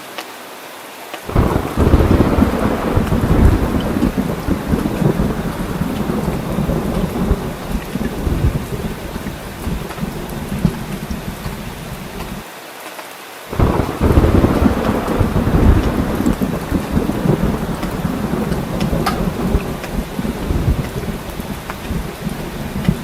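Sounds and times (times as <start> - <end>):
heavy rain: 0.0 - 23.0
rolling thunder: 1.3 - 12.4, 13.5 - 23.0.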